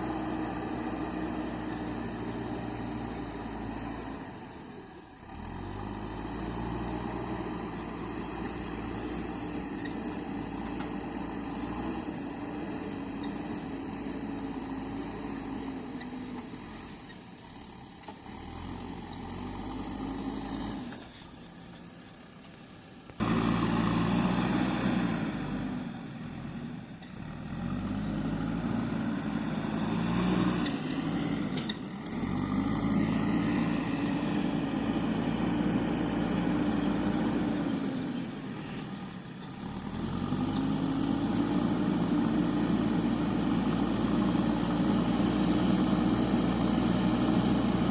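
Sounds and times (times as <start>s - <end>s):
diesel engine revving: 0.0s - 22.0s, 22.9s - 47.9s.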